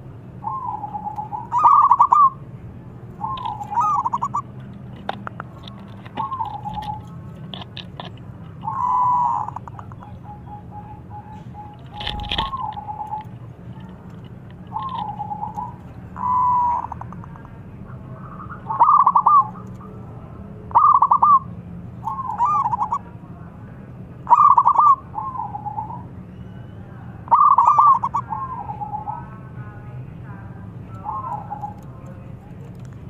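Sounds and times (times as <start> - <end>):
dove cooing: 0.4 - 2.4, 3.2 - 20.0, 20.7 - 23.1, 24.2 - 26.5, 27.2 - 29.5, 30.9 - 32.3.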